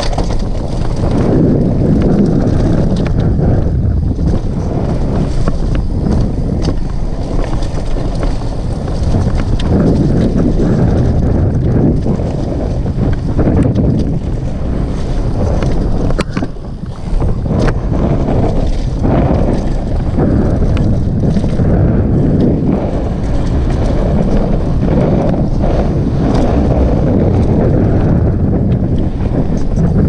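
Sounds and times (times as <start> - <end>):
bike rattling: 0.0 - 30.0
tyres rumbling over trail: 0.0 - 30.0
wind buffeting camera microphone: 0.0 - 30.0.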